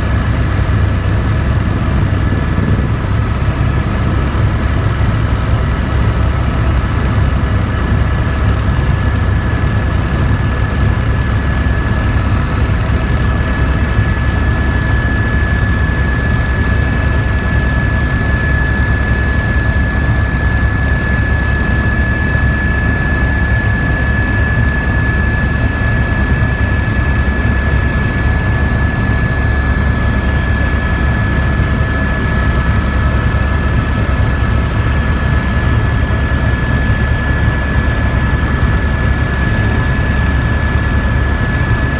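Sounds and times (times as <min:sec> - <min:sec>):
helicopter in flight: 0:00.0 - 0:41.9.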